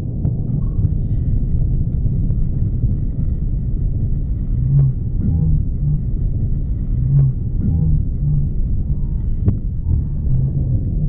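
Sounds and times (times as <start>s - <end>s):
low rumble of burning wreckage: 0.0s - 11.0s.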